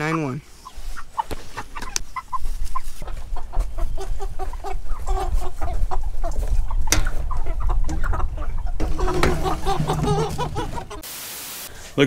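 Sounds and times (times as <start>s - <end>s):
chickens clucking: 0.0s - 11.1s.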